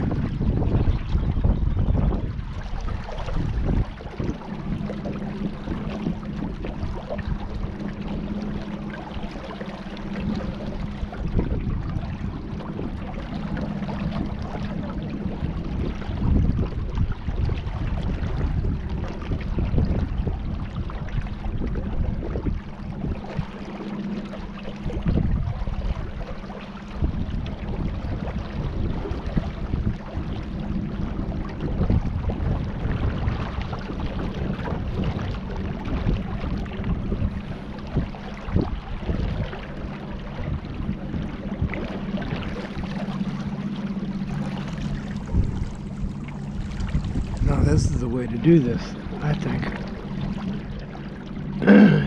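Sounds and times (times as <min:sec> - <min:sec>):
water splashing around kayak: 0:00.0 - 0:52.0
wind rumbling on microphone: 0:00.0 - 0:52.0.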